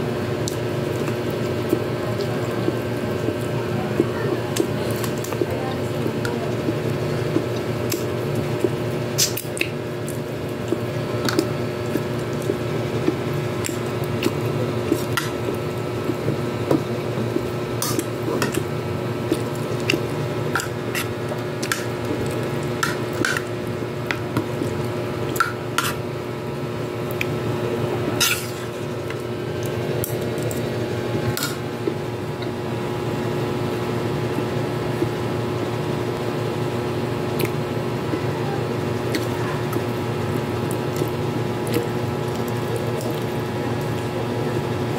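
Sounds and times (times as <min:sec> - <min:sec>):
steady hum: 0:00.0 - 0:44.9.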